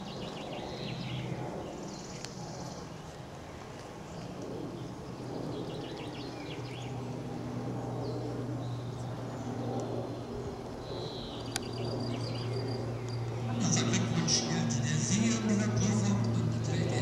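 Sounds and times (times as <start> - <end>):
birds chirping: 0.0 - 3.2, 4.1 - 7.1, 7.8 - 17.0
steady low hum: 0.0 - 17.0.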